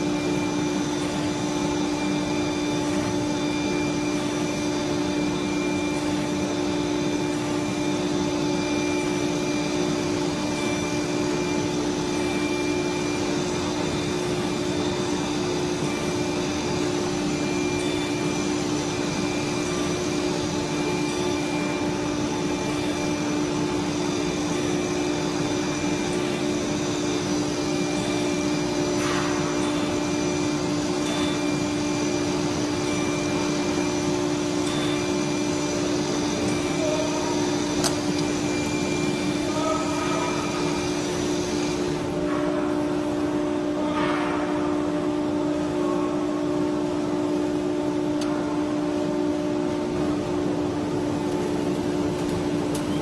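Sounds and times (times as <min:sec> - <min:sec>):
faint steady whines: 0:00.0 - 0:43.9
cnc router machine drone: 0:00.0 - 0:53.0.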